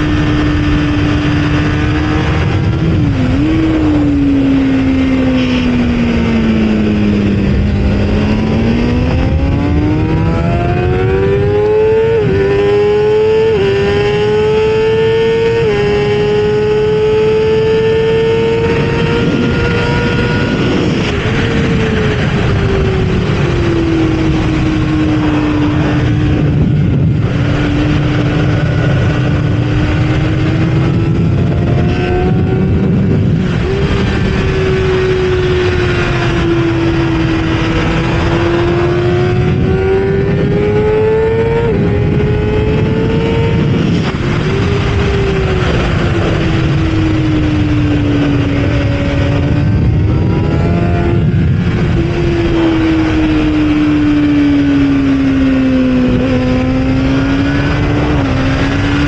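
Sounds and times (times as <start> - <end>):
heavy wind rush: 0.0 - 59.0
motorcycle engine running hard: 0.0 - 59.0.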